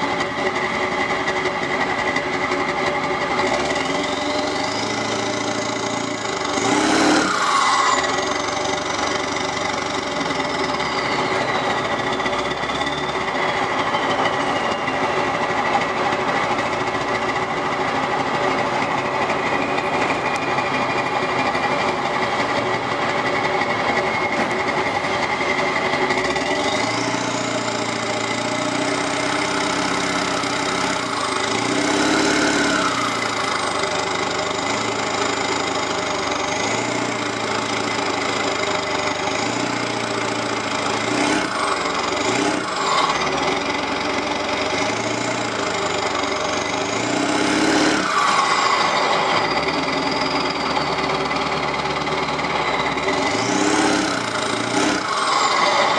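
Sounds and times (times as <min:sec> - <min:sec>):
turbo whine: 0:00.0 - 0:17.6, 0:19.2 - 0:55.9
diesel engine revving: 0:00.0 - 0:55.9.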